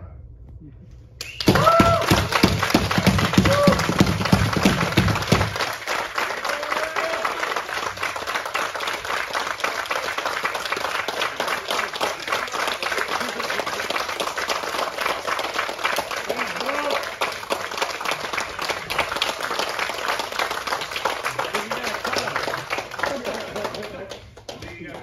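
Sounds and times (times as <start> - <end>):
room full of people applauding: 1.2 - 25.0.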